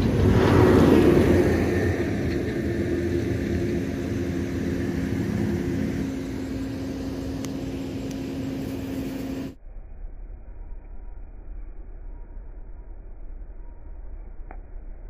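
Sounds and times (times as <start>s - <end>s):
low mechanical engine hum: 0.0s - 15.0s.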